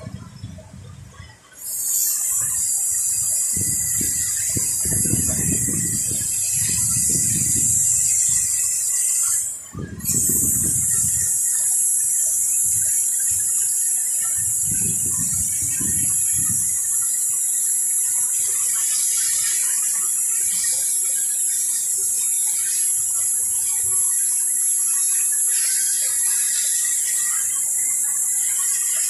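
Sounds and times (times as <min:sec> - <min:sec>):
high-pitched hiss with whistle: 0:00.0 - 0:29.0.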